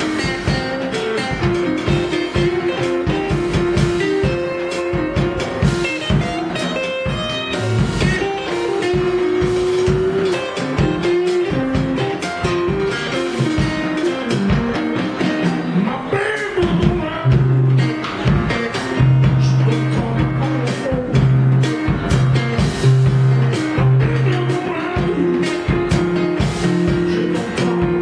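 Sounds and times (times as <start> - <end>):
drum kit: 0.0 - 28.0
electric guitar lead lines: 0.0 - 28.0
electric piano: 0.0 - 28.0.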